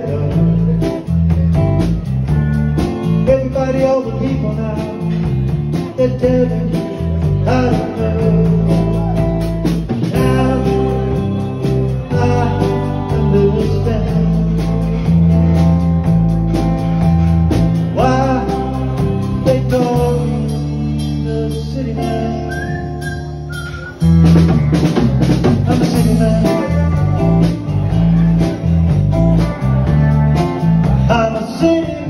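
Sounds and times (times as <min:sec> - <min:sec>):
acoustic guitar: 0:00.0 - 0:32.0
drums: 0:00.0 - 0:32.0
electric bass: 0:00.0 - 0:32.0.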